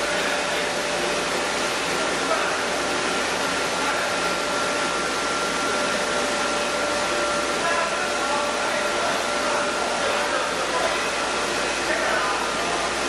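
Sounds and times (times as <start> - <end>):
milling machinery whirring: 0.0 - 13.0.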